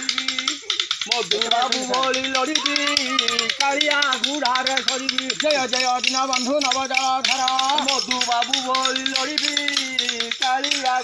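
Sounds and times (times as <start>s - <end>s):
man singing long held notes: 0.0s - 11.0s
wooden clappers clicking: 0.0s - 11.0s.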